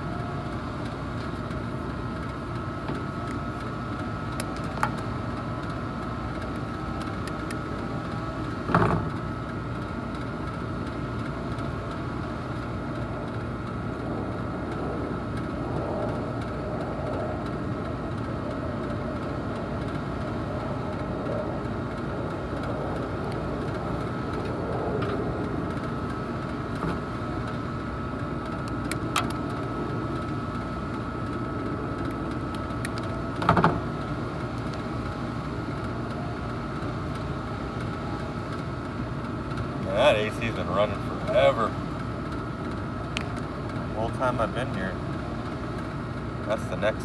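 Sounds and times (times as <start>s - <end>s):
air conditioning unit humming: 0.0s - 47.0s.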